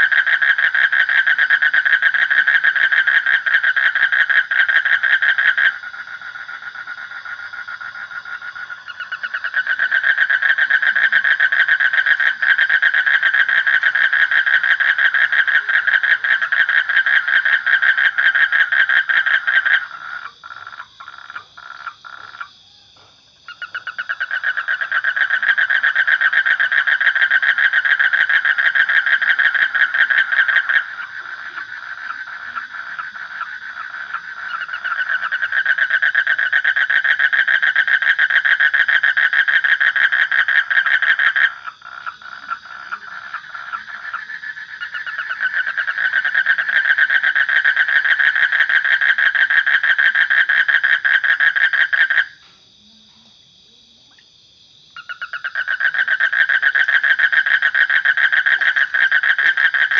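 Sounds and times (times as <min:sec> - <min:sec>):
frogs calling in pulsing trill: 0:00.0 - 0:52.9, 0:53.6 - 0:59.9.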